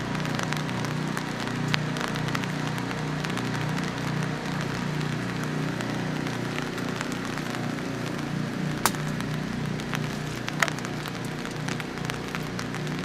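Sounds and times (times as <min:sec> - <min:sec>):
dripping ticks: 0:00.0 - 0:13.0
rain on wet surfaces: 0:00.0 - 0:13.0.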